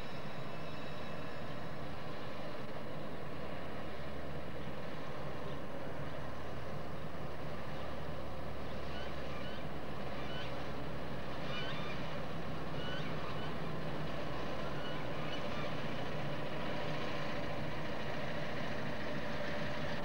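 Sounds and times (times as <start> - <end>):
diesel locomotive engine droning: 0.0 - 20.0.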